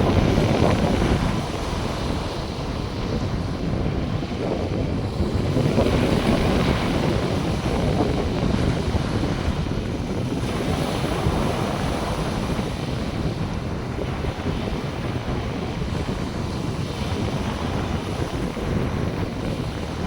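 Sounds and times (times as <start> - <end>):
surf breaking on a beach: 0.0 - 20.0
wind rumbling on microphone: 0.0 - 20.0.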